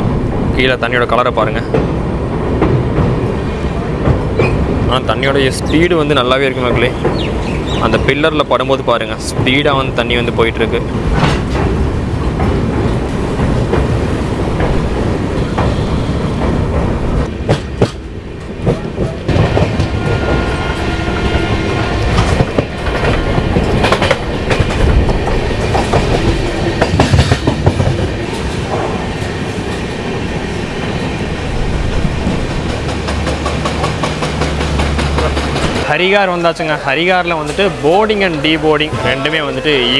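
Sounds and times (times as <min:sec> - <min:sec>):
train coaches rumbling: 0:00.0 - 0:39.9
wheels clicking over rail joints: 0:01.6 - 0:38.9.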